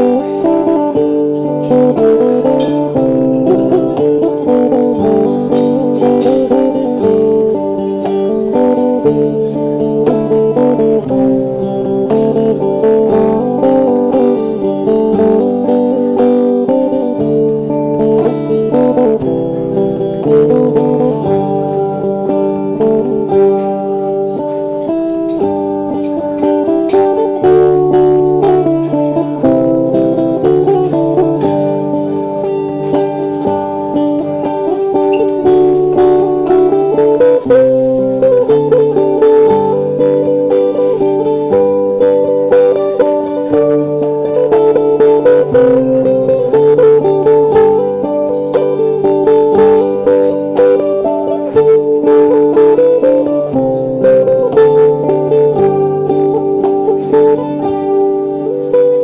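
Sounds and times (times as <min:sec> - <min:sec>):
acoustic guitar: 0:00.0 - 0:59.0
plucked lute melody: 0:00.0 - 0:59.0.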